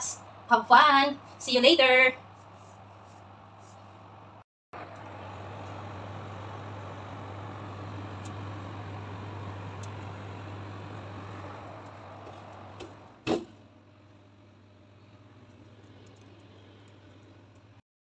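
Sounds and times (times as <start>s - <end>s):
oven fan humming: 0.0s - 17.8s.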